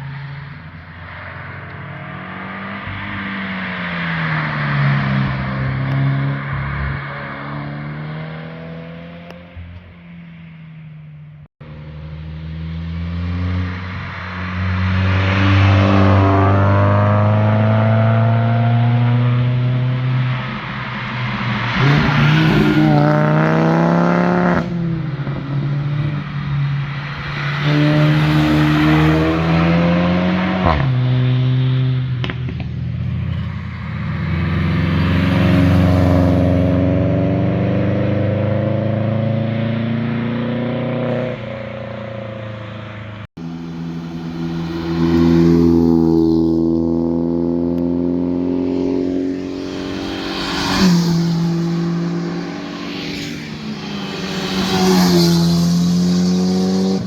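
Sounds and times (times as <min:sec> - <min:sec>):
performance cars accelerating past: 0:00.0 - 0:10.4, 0:11.6 - 0:57.0.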